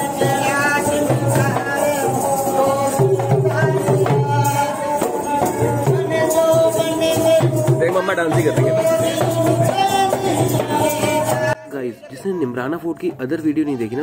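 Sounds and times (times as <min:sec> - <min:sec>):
steady drum beat: 0:00.0 - 0:11.6
jingling percussion: 0:00.0 - 0:14.0.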